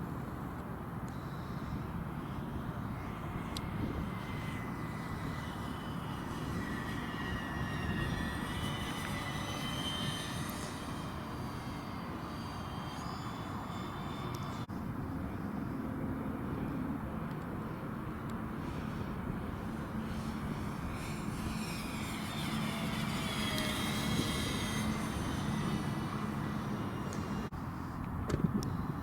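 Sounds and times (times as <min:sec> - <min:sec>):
propeller aircraft passing: 0:00.0 - 0:28.0
wind rumbling on microphone: 0:00.0 - 0:29.0.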